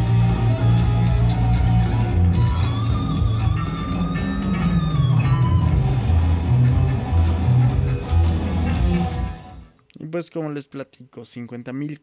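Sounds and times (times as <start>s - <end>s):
electric guitar lead line: 0.0s - 9.7s
heavy bass: 0.0s - 9.7s.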